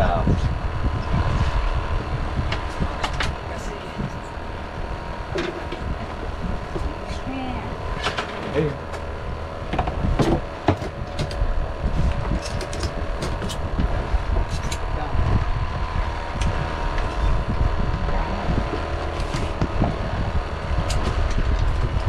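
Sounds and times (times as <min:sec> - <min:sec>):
boat engine running: 0:00.0 - 0:22.0
wind and water rumble: 0:00.0 - 0:22.0.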